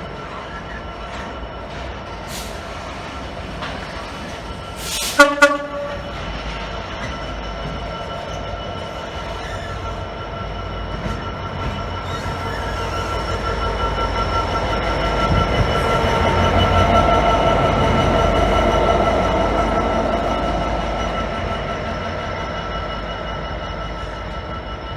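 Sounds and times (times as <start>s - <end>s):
train rumbling past: 0.0s - 24.9s.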